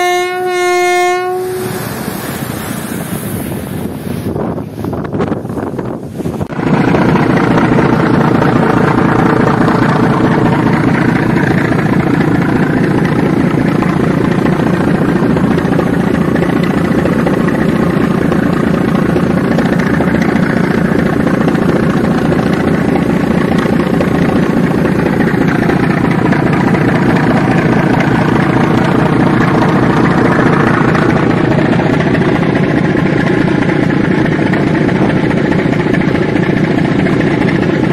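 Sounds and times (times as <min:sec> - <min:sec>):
boat diesel engines droning: 0:00.0 - 0:37.9.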